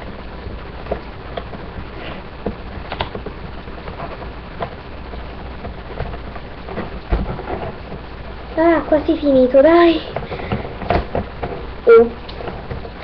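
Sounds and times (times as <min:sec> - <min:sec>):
steady hiss and low hum: 0:00.0 - 0:13.0.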